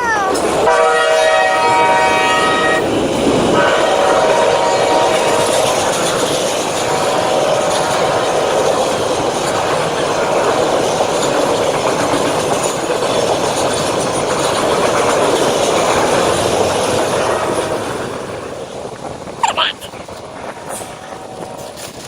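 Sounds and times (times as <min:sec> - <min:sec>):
train wheels rumbling on rails: 0:00.0 - 0:19.4, 0:20.0 - 0:22.0.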